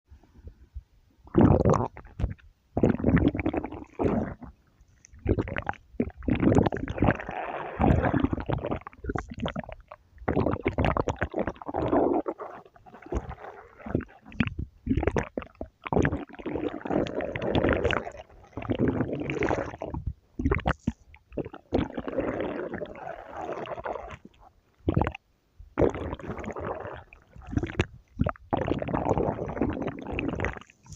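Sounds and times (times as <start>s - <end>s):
stomach growling and gurgling: 1.2s - 30.9s.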